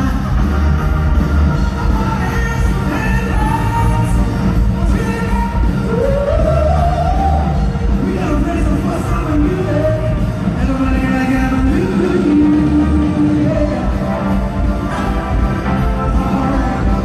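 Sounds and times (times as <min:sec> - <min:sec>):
live rock band playing: 0:00.0 - 0:17.0
person singing lead vocals: 0:01.5 - 0:17.0.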